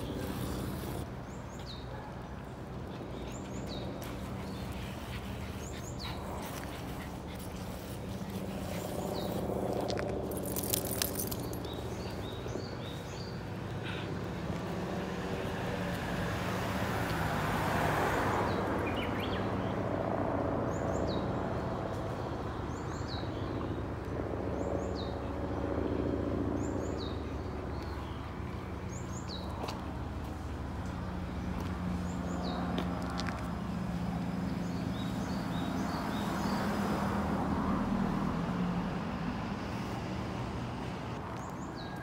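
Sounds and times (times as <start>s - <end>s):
vehicle passing: 0.0s - 1.2s, 2.9s - 22.9s, 26.5s - 41.9s
road traffic hum: 0.0s - 42.0s.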